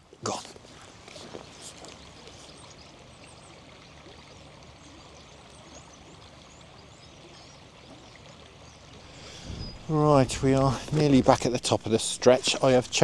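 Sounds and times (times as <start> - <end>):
small river flowing: 0.0 - 13.0
small birds chirping: 0.3 - 13.0.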